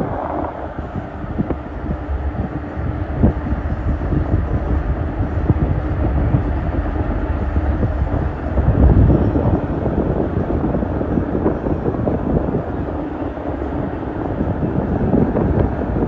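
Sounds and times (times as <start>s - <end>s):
ferry engine rumble: 0.0s - 16.0s.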